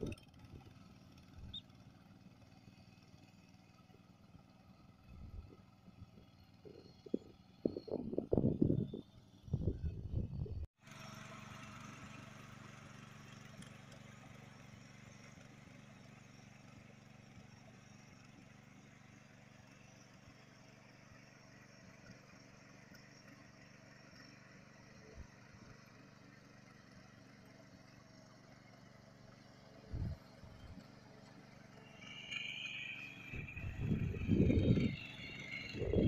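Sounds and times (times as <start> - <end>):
power tiller engine humming: 0.0 - 36.0.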